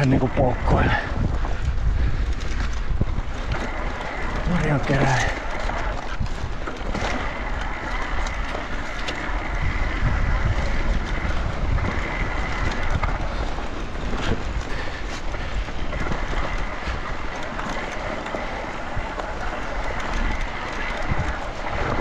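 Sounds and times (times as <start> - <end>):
bike clicks and rattles: 0.0 - 22.0
tyres rolling on sandy track: 0.0 - 22.0.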